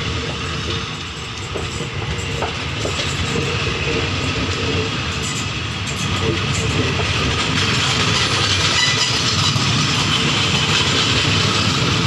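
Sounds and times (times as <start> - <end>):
train wheels rumbling on rails: 0.0 - 12.0
clattering over track: 0.2 - 12.0.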